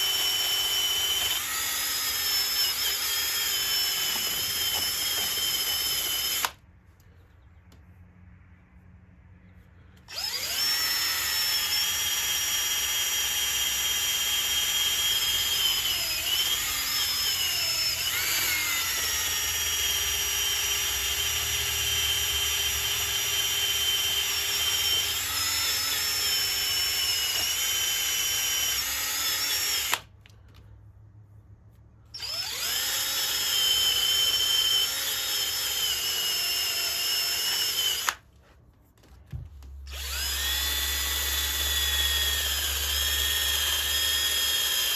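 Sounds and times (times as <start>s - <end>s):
power sander whining: 0.0s - 6.6s, 10.0s - 30.0s, 32.2s - 38.2s, 39.9s - 44.9s.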